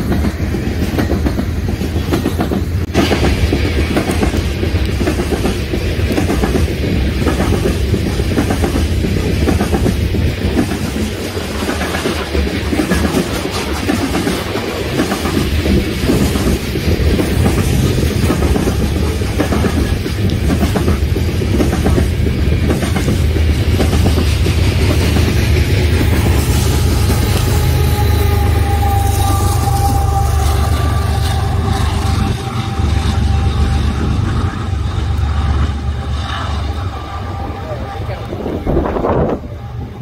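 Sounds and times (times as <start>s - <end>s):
steel wheels rumbling on rail: 0.0s - 40.0s
wheels clickety-clack over track: 0.0s - 40.0s.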